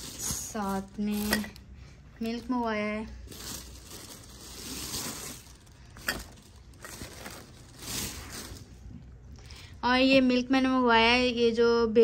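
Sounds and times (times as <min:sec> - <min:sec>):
plastic bags rustling: 0:00.0 - 0:09.7.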